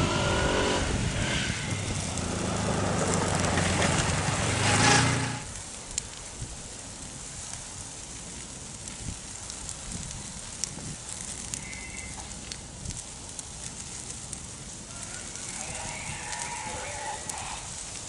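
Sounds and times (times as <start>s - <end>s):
fire crackling in leaves: 0.0s - 18.0s.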